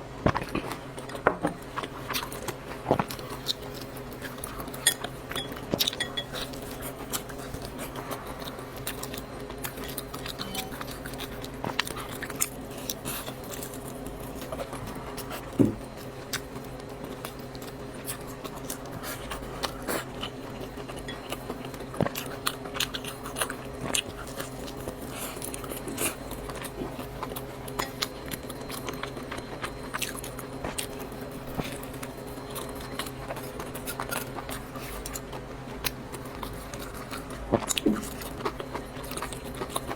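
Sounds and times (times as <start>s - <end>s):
chewing noodles: 0.3s - 39.9s.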